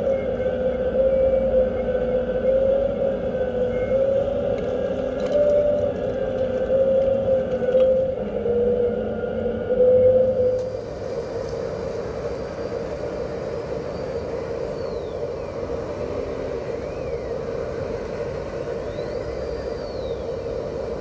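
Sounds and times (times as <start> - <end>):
simulated diesel engine drone: 0.0 - 21.0
thin motor whine: 0.0 - 21.0.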